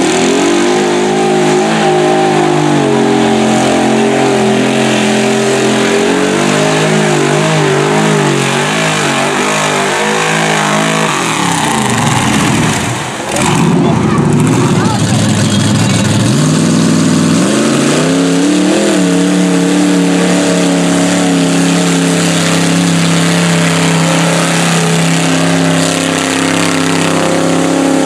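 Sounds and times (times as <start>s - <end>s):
tires spinning in mud: 0.0s - 28.0s
truck engine revving: 0.0s - 28.0s.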